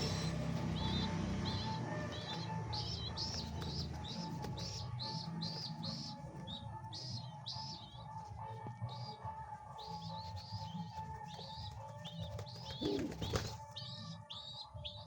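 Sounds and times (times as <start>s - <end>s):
pigeon chicks peeping: 0.0s - 15.0s.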